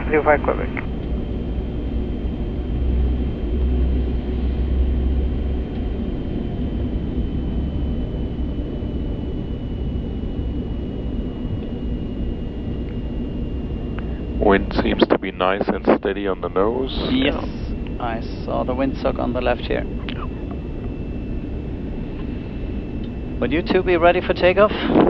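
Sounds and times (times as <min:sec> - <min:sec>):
low rumble of engines: 0:00.0 - 0:25.0
thin high whine: 0:00.0 - 0:25.0.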